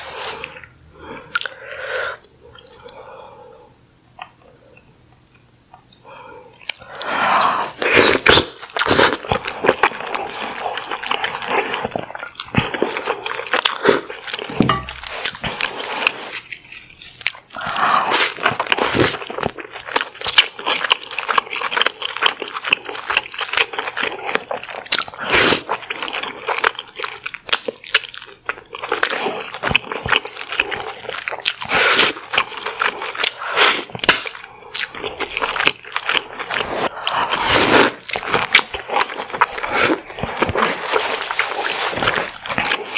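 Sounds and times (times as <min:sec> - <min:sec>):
chewing with wet mouth sounds: 0:08.2 - 0:42.9.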